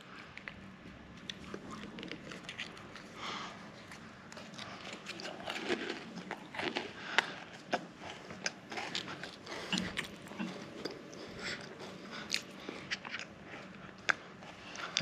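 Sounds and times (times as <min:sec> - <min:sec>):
person chewing crunchy food: 0:00.2 - 0:15.0.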